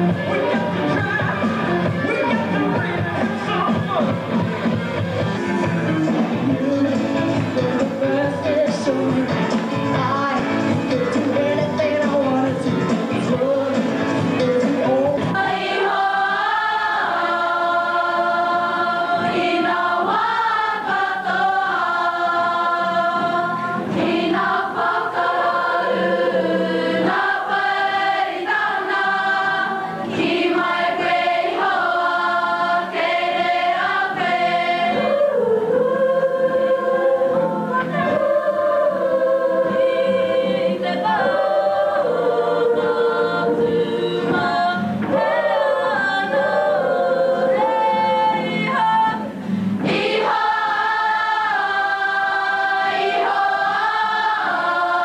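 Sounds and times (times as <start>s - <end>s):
girls choir singing: 4.4s - 14.0s, 14.6s - 55.0s.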